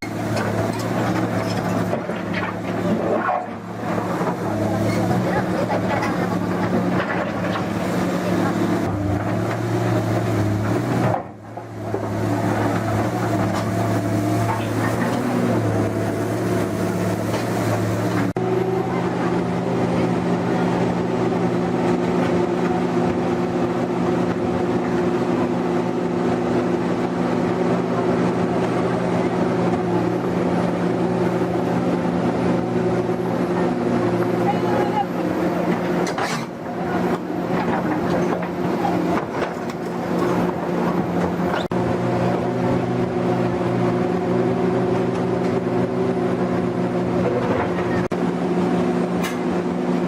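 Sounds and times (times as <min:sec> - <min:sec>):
heavy vehicle engine running: 0:00.0 - 0:50.0.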